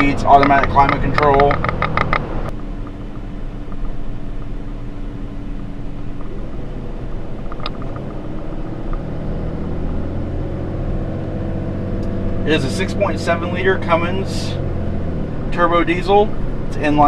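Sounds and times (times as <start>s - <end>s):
pickup truck engine and road noise: 0.0s - 17.0s
steady hum: 0.0s - 17.0s.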